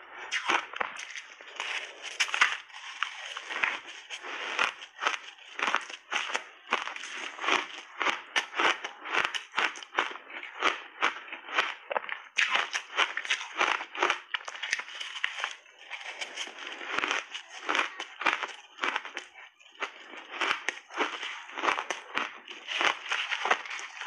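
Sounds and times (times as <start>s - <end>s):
chewing crunchy ice: 0.2s - 24.0s.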